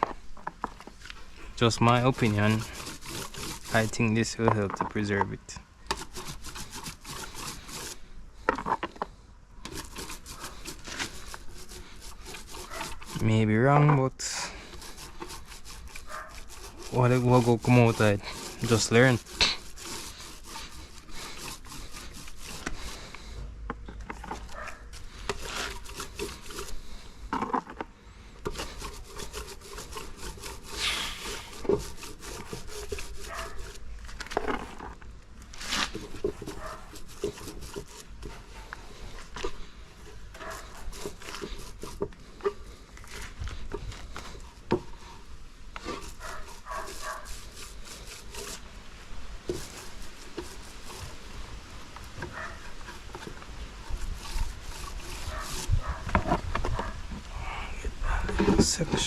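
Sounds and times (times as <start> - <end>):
rubbing and scraping on plywood: 0.0 - 59.0.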